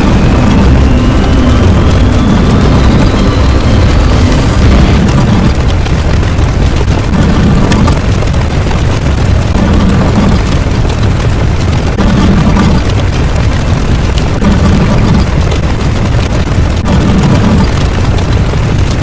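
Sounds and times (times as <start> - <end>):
deep blast-like rumbling: 0.0 - 19.0
faint sharp crackles: 0.0 - 19.0.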